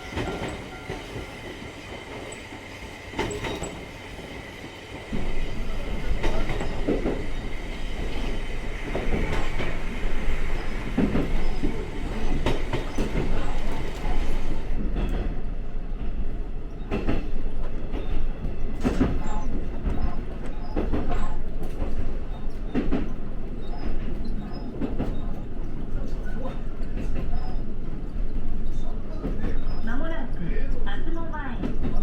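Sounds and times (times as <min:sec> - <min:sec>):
wheels clacking over rail joints: 0:00.0 - 0:29.8
railcar engine rumble: 0:00.0 - 0:32.0.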